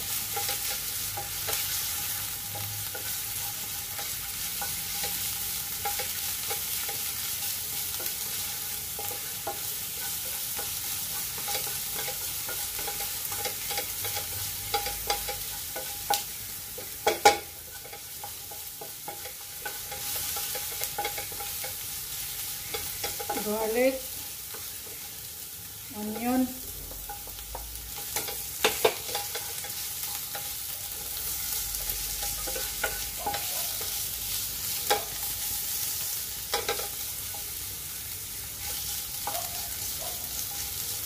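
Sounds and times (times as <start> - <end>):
garlic sizzling in oil: 0.0 - 41.0.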